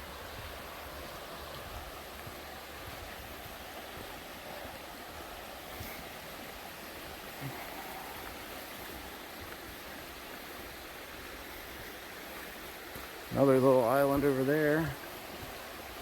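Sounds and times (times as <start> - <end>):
river water flowing over rocks: 0.0 - 16.0.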